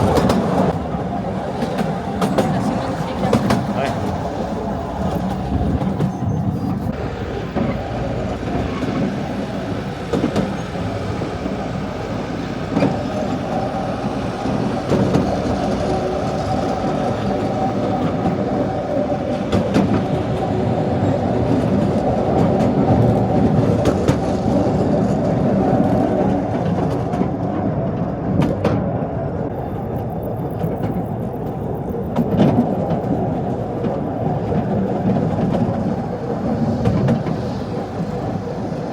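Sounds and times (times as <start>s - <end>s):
train carriages rumbling: 0.0s - 38.9s
wheels clicking over rails: 0.0s - 38.9s.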